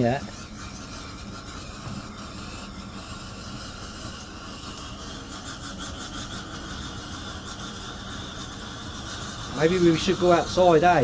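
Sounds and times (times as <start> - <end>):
stove priming flame rushing: 0.0 - 11.0.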